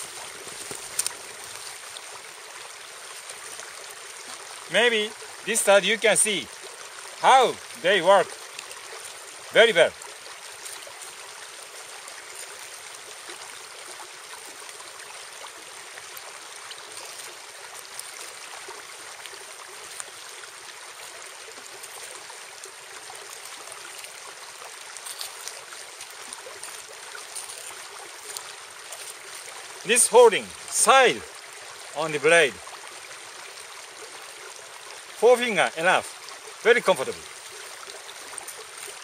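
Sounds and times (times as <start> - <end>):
river flowing: 0.0 - 39.0.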